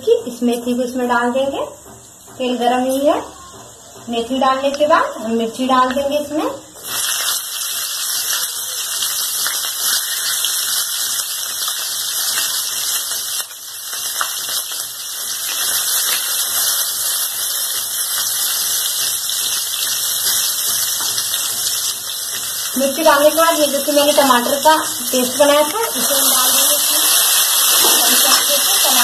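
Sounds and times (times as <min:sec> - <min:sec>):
chillies sizzling in hot oil: 0:04.5 - 0:29.0.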